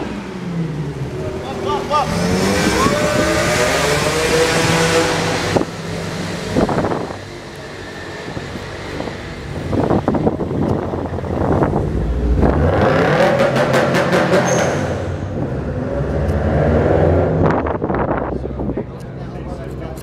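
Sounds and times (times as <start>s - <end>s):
car engine: 0.0s - 20.0s.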